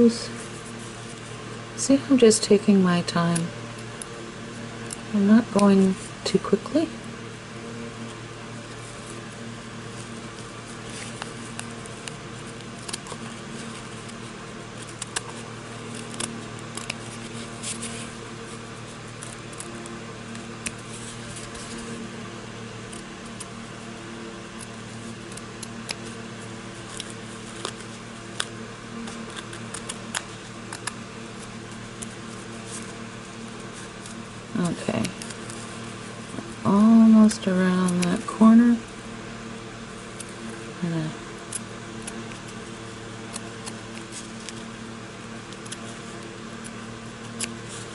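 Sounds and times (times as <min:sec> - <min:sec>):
steady background hum: 0:00.0 - 0:47.9.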